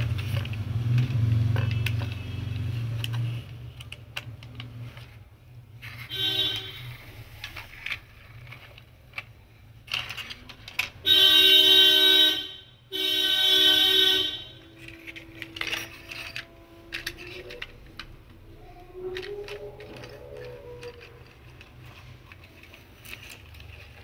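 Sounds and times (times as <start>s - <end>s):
toy vehicles knocking on concrete: 0.0s - 24.0s.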